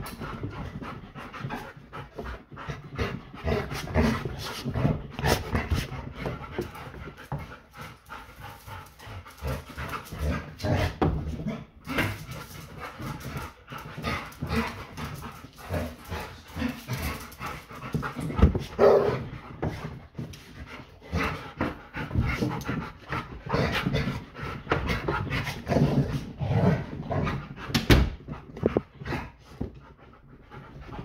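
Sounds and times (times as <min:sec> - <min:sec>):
dogs panting: 0:00.0 - 0:31.0.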